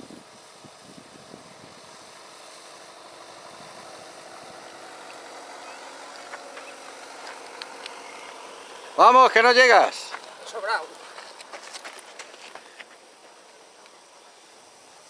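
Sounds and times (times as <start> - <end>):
motor running faintly: 0.0 - 15.0.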